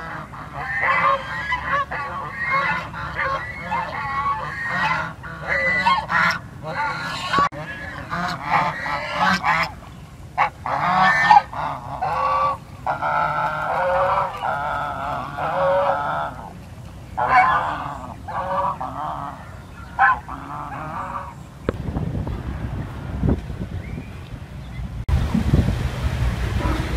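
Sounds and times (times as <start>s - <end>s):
geese honking: 0.0s - 21.8s.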